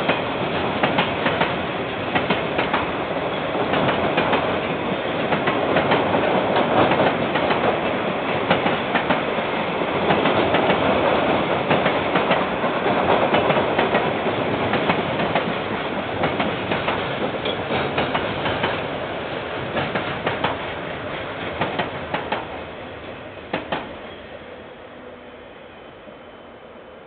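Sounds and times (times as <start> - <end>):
train wheels clacking: 0.0 - 22.6
train rumble: 0.0 - 25.3.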